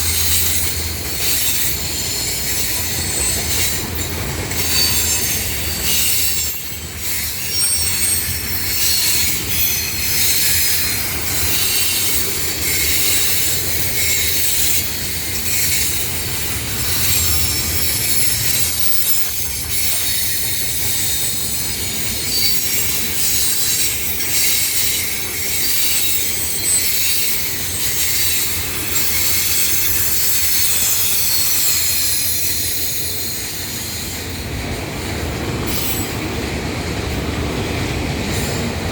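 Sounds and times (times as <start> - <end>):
high wheel squeals: 0.0 - 34.6
freight train cars rumbling: 0.0 - 38.9
wheels clicking over rail joints: 0.0 - 38.9.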